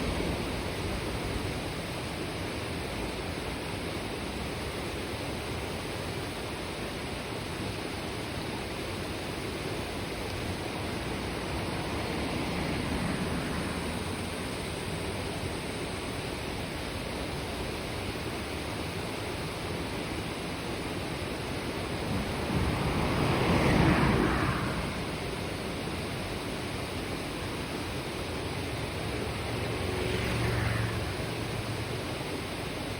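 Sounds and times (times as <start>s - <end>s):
river babbling over rocks: 0.0s - 30.2s.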